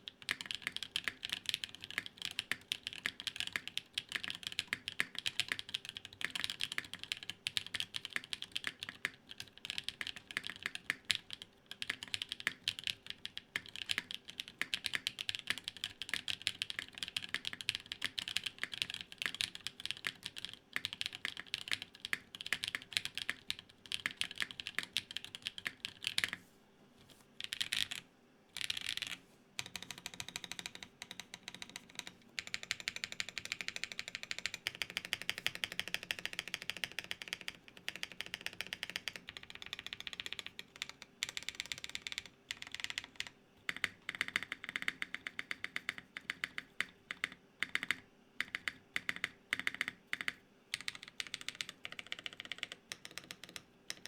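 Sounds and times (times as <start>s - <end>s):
mechanical keyboard typing: 0.0s - 26.4s, 27.4s - 28.0s, 28.6s - 54.0s.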